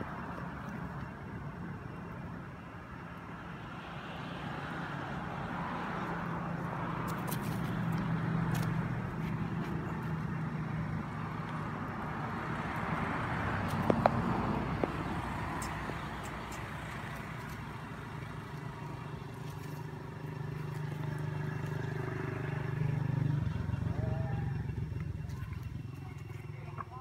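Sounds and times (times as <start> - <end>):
traffic rushing: 0.0 - 27.0
vehicle engine humming: 0.0 - 27.0.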